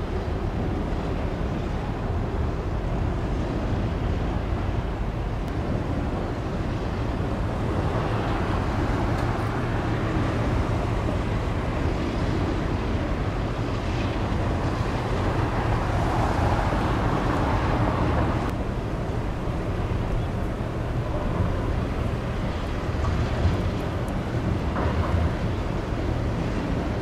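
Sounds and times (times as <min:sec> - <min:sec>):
ship rumbling: 0:00.0 - 0:27.0
wind buffeting microphone: 0:00.0 - 0:27.0.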